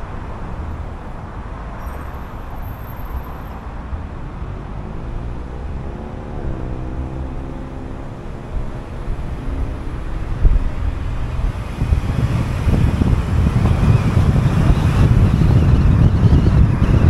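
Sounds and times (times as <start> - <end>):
car engine hum: 0.0 - 17.0
road and wind noise: 0.0 - 17.0.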